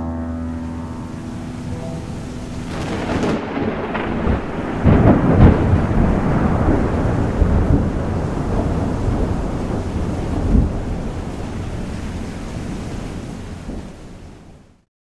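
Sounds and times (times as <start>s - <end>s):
thunder rumbling: 0.0s - 14.0s
steady rain: 0.8s - 14.9s.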